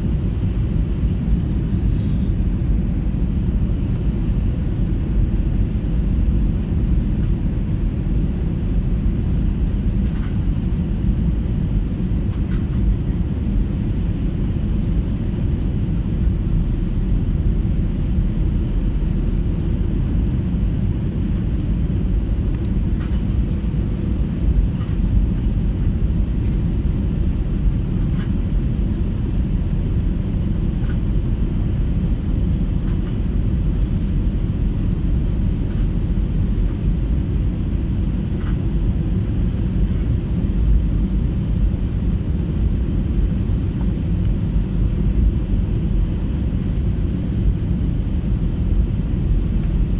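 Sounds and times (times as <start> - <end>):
airliner cabin engine rumble: 0.0 - 49.9
faint steady hum: 0.0 - 49.9.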